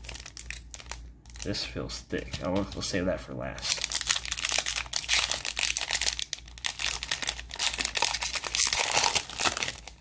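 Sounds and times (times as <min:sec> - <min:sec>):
plastic wrapper crinkling: 0:00.0 - 0:03.0, 0:03.6 - 0:10.0.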